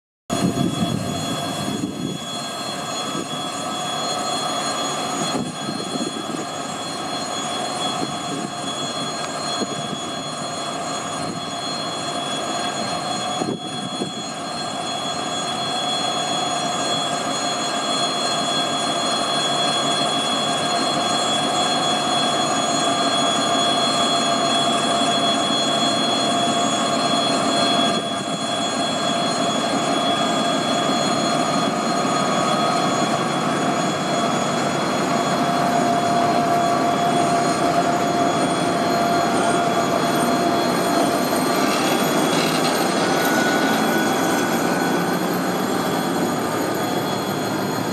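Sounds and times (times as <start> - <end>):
diesel locomotive engine: 0.3 - 47.9
high whine: 0.3 - 47.9.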